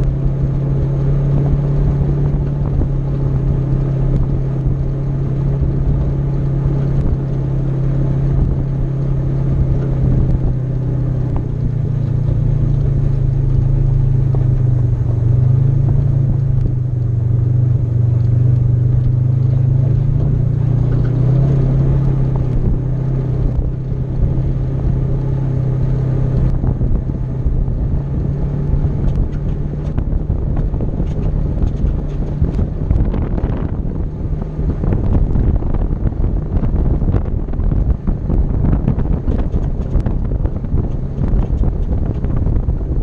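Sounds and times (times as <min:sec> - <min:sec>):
gravel ticks: 0:00.0 - 0:43.0
off-road vehicle engine: 0:00.0 - 0:43.0
wind buffeting microphone: 0:00.0 - 0:43.0.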